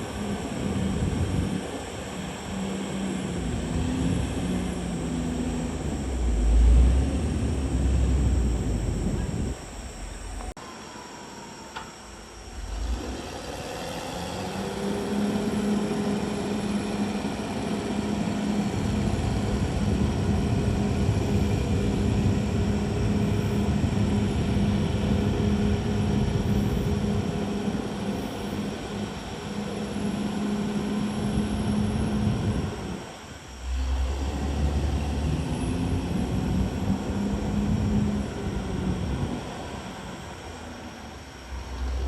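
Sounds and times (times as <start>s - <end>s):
bulldozer diesel engine droning: 0.0s - 42.0s.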